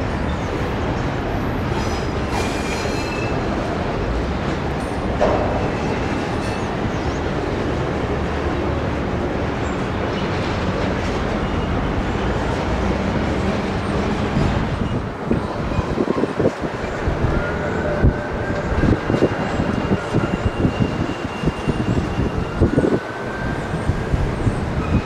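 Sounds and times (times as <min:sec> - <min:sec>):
wheels clacking on rail joints: 0:00.0 - 0:23.1
train rumbling: 0:00.0 - 0:25.0.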